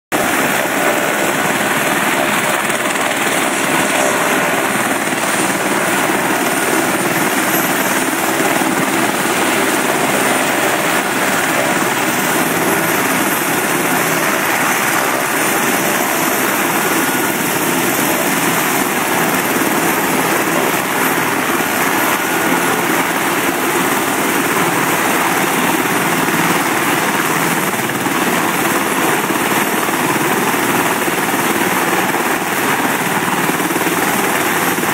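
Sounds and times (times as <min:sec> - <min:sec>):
helicopter turbine and rotor: 0:00.1 - 0:34.9.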